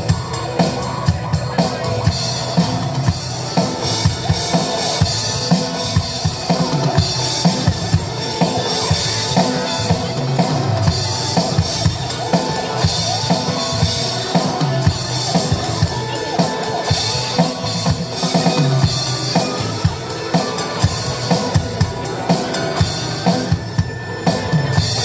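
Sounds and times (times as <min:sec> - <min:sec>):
music with drum beat: 0:00.0 - 0:25.0.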